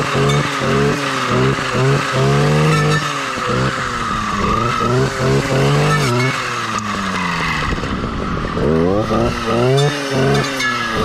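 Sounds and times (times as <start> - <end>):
two-stroke saw engine revving: 0.0 - 11.0.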